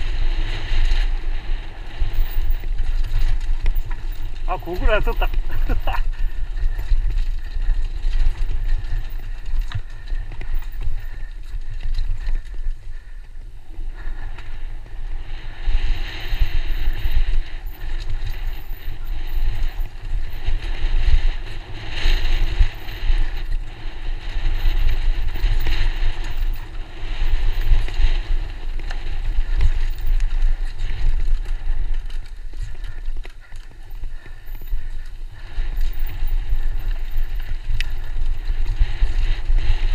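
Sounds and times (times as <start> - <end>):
bike rattles and knocks: 0.0 - 14.9, 15.7 - 39.9
wind rumble on microphone: 0.0 - 39.9.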